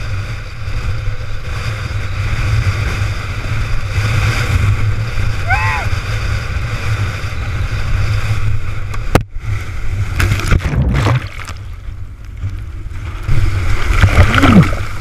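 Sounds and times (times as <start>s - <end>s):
rushing water and surf: 0.0s - 15.0s
wind buffeting microphone: 0.0s - 15.0s.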